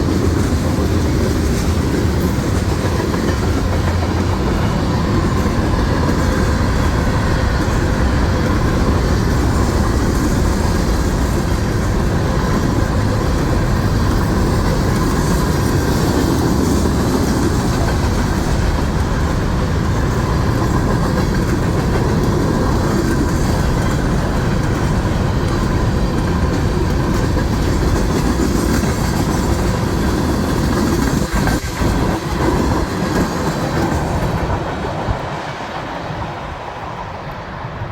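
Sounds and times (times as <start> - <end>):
train wheels rumbling on track: 0.0 - 37.9.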